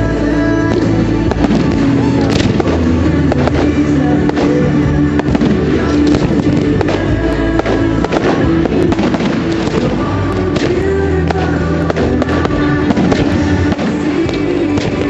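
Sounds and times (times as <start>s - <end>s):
fireworks banging and crackling: 0.0s - 15.0s
loud music: 0.0s - 15.0s.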